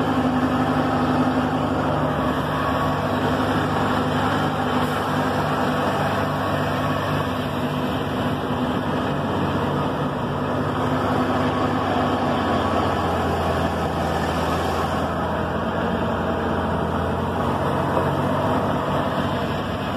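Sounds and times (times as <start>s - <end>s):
road noise: 0.0s - 19.9s
vehicle engine pulling uphill: 0.0s - 19.9s.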